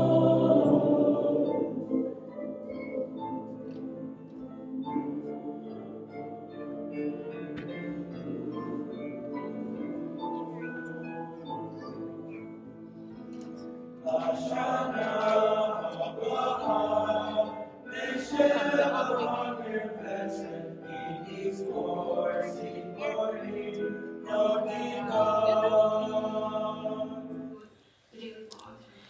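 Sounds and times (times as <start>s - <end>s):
choir singing: 0.0s - 27.6s
sustained accompanying chords: 0.0s - 27.6s.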